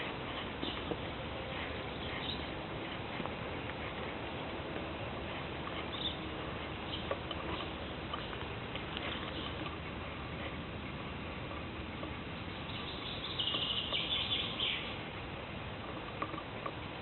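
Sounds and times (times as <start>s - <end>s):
small ticks: 0.3s - 10.6s, 11.4s - 15.0s, 15.8s - 17.0s.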